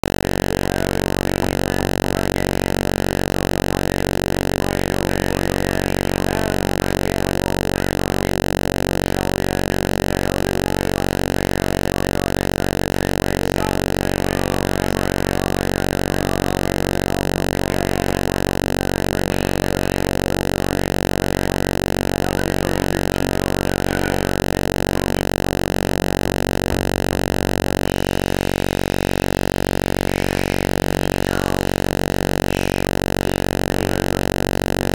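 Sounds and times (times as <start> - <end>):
loud steady buzz: 0.0 - 34.9.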